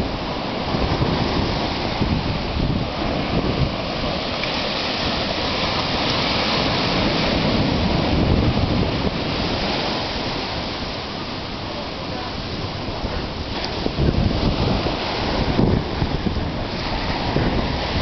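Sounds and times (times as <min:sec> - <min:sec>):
heavy ocean surf breaking: 0:00.0 - 0:18.0
wind buffeting microphone: 0:00.0 - 0:18.0.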